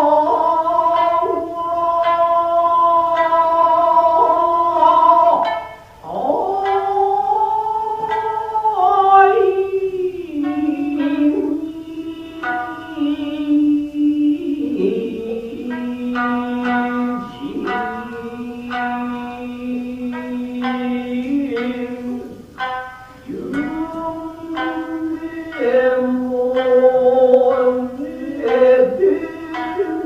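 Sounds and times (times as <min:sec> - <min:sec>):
man singing long sliding notes: 0:00.0 - 0:30.0
plucked shamisen: 0:00.0 - 0:30.0.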